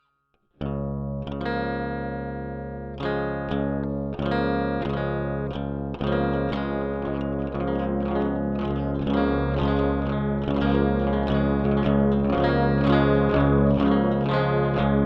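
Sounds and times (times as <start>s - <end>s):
distorted electric guitar: 0.6s - 15.0s.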